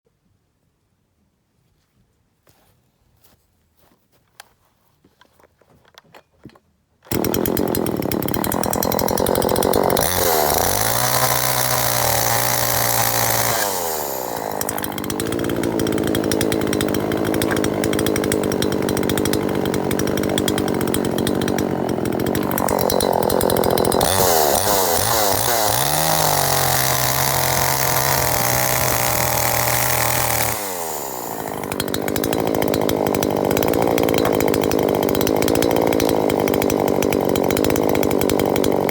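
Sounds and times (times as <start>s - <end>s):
chainsaw revving and idling: 7.0s - 38.9s.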